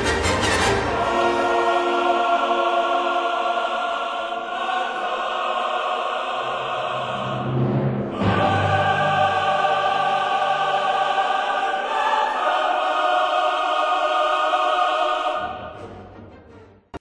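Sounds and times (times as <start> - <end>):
choir singing sustained chords: 0.0 - 16.8.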